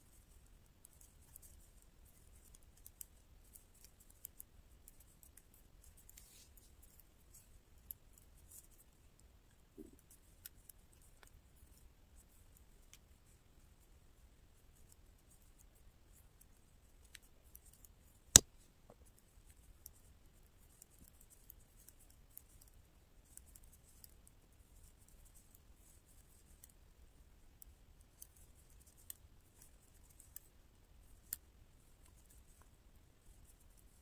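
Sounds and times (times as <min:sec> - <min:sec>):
knitting needles clicking: 0:00.1 - 0:13.1, 0:14.8 - 0:26.8, 0:27.6 - 0:30.5, 0:31.1 - 0:34.0.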